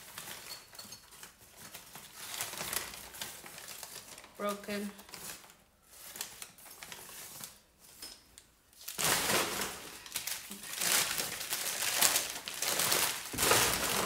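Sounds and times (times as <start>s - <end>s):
packing material crinkling: 0.0s - 14.0s.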